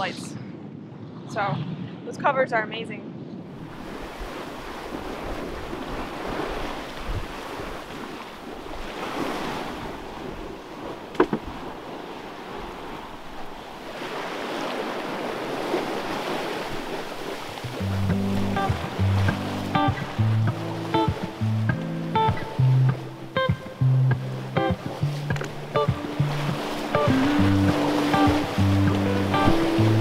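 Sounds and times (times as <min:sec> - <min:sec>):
wind buffeting microphone: 0:00.0 - 0:30.0
water splashing along hull: 0:03.5 - 0:30.0.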